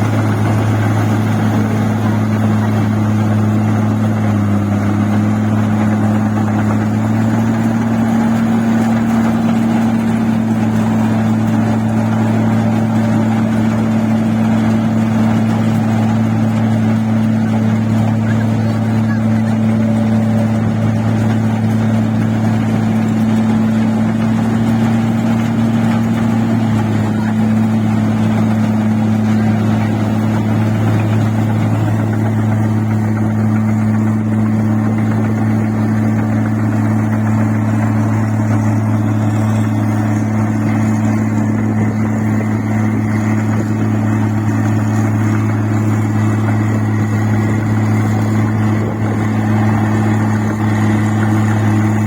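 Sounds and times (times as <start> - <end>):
machine engine humming: 0.0 - 52.0.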